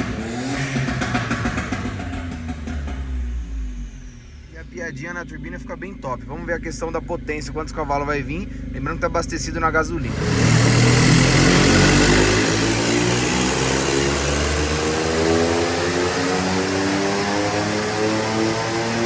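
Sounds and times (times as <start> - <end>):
car engine revving under load: 0.0 - 19.0.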